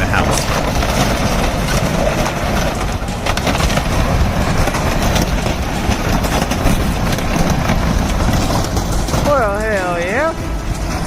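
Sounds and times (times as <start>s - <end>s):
heavy machinery engine running: 0.0s - 11.0s
wood crunching and splintering: 0.0s - 11.0s.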